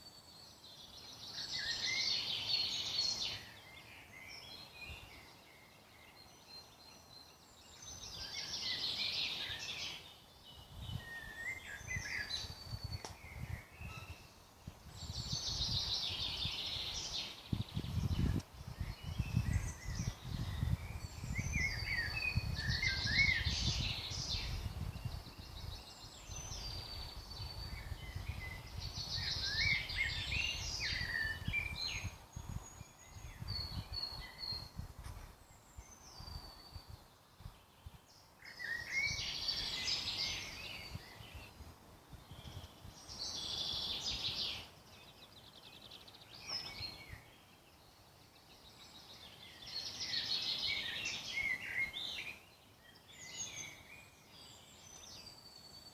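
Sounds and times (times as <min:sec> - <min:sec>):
birds singing: 0:00.0 - 0:55.9
soft bird chirps: 0:00.0 - 0:55.9.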